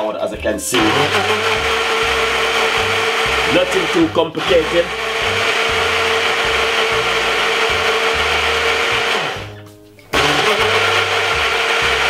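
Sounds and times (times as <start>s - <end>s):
blender motor whining: 0.7s - 12.0s.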